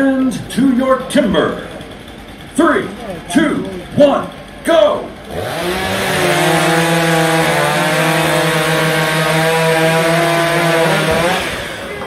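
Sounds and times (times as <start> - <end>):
chainsaw cutting through log: 0.0 - 12.0.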